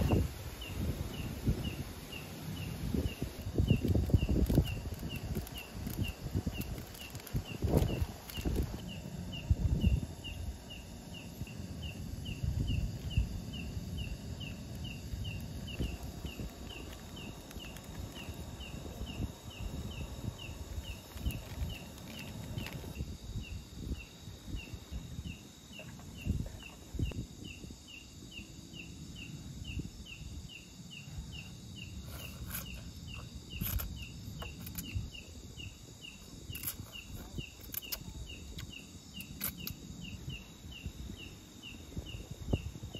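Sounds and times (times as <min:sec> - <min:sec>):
insect chirping: 0:00.0 - 0:42.9.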